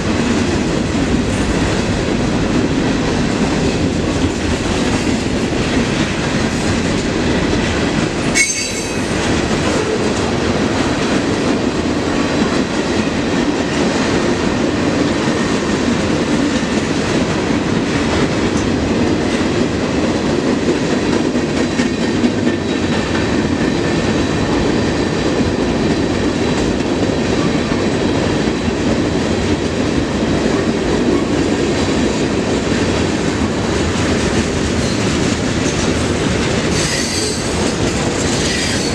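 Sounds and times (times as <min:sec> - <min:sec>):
train wheels rolling on rails: 0:00.0 - 0:38.9.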